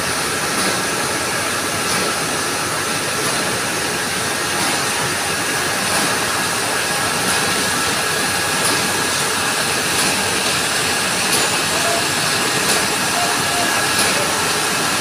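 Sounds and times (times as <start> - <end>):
factory machinery din: 0.0 - 15.0.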